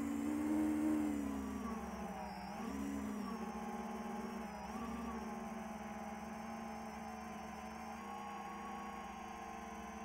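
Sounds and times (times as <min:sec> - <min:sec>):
drone motors humming: 0:00.0 - 0:10.0.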